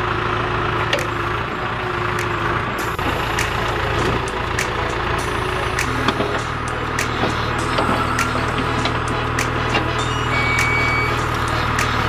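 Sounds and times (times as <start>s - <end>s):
diesel engine running: 0.0s - 12.0s
hydraulic whine: 0.0s - 12.0s.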